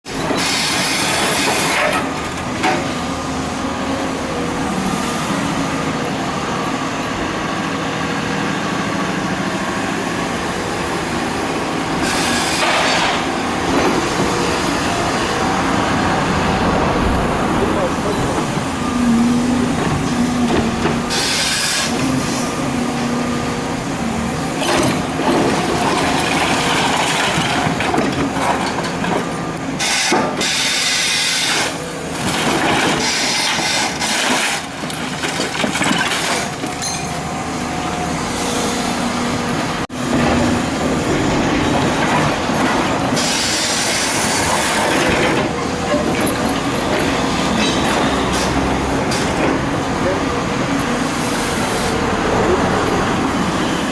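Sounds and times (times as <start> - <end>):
excavator engine and hydraulics: 0.1 - 53.9.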